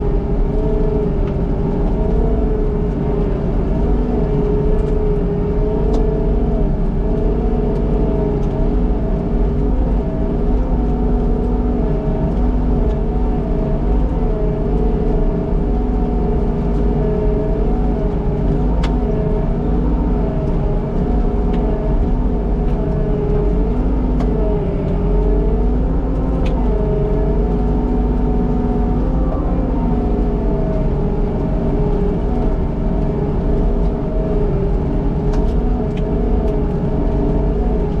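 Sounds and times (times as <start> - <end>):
skid steer engine running: 0.0 - 38.0.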